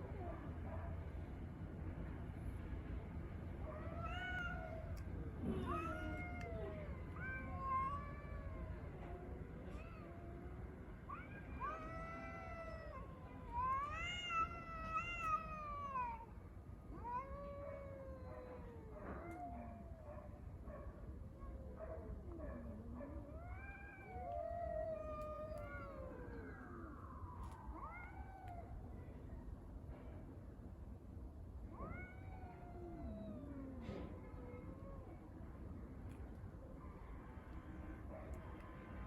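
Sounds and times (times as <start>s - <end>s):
cats yowling: 3.6s - 29.6s, 31.6s - 38.8s.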